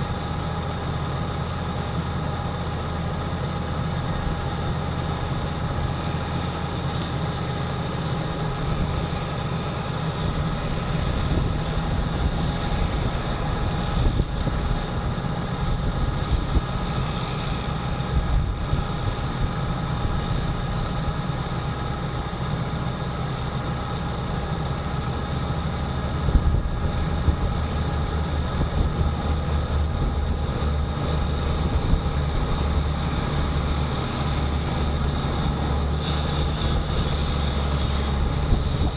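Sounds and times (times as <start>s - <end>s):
tractor engine rumbling: 0.0s - 38.9s.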